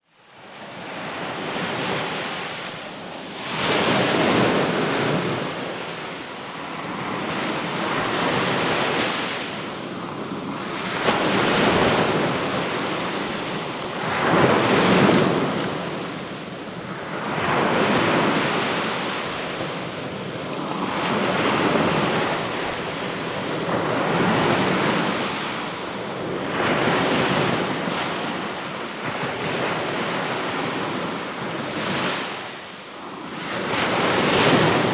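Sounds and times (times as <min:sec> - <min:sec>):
sea waves breaking: 0:00.4 - 0:34.9.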